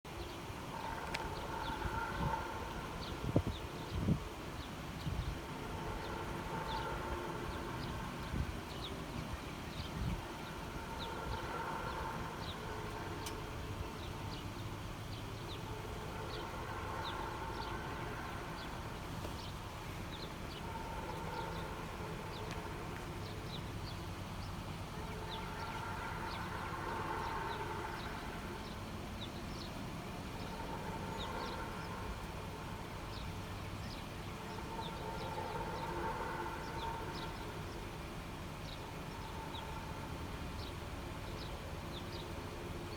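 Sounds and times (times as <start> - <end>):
low rumble: 0.7 - 41.7
distant wailing tone: 5.2 - 41.7.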